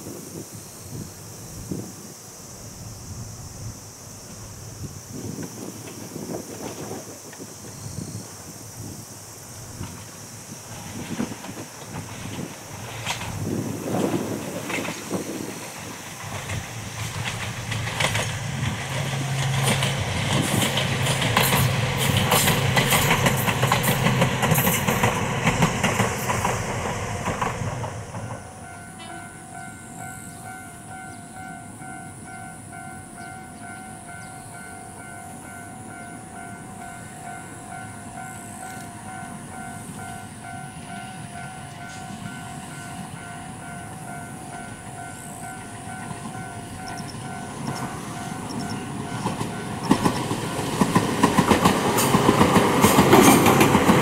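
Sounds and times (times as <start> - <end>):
electric train passing: 0.0 - 54.0
wheels clicking over rail joints: 9.8 - 54.0.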